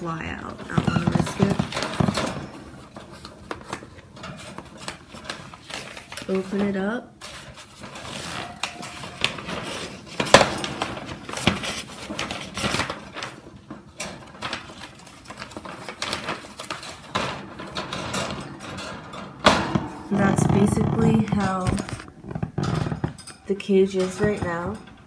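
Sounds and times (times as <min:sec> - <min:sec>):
newspaper rustling and crinkling: 0:00.0 - 0:24.7.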